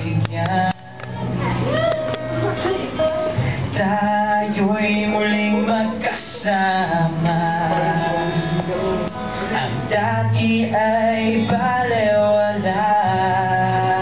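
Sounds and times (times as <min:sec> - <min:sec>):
man singing into a microphone: 0:00.0 - 0:01.4, 0:03.3 - 0:14.0
acoustic guitar: 0:00.0 - 0:14.0.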